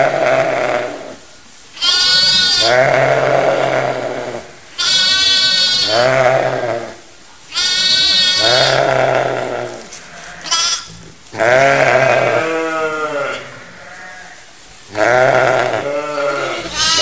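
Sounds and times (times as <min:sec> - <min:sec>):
lambs bleating: 0:01.8 - 0:06.9, 0:07.5 - 0:17.0.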